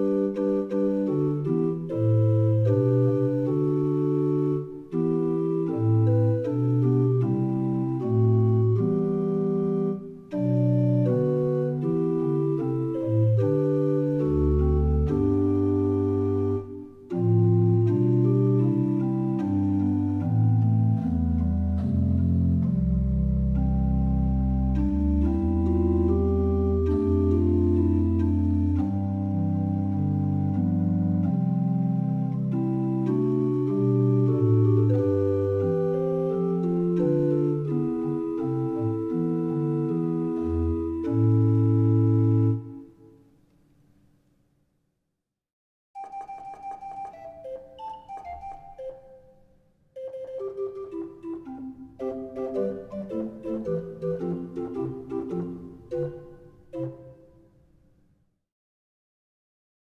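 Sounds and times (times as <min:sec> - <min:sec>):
organ playing held chords: 0:00.0 - 0:42.8, 0:50.2 - 0:57.2.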